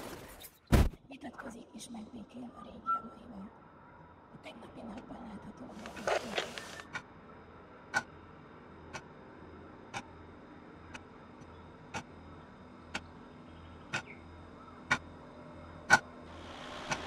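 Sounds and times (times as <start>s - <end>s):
faint steady hum: 1.1s - 17.0s.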